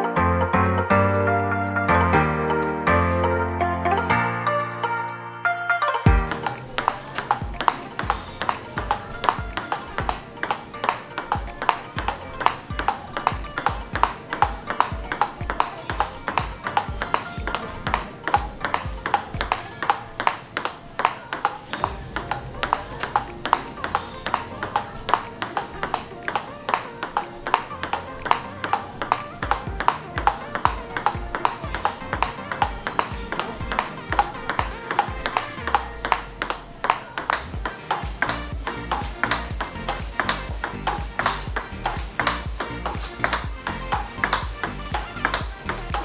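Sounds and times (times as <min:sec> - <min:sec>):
background music with bass line: 0:00.0 - 0:19.8, 0:27.7 - 0:36.7, 0:37.4 - 0:46.0
table tennis ball clicks: 0:06.3 - 0:46.0.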